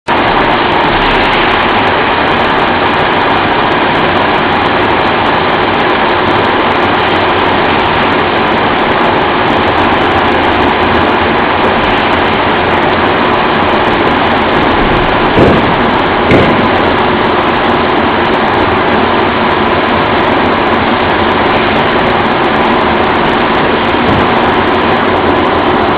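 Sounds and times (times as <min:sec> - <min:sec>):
machine running: 0:00.1 - 0:25.9.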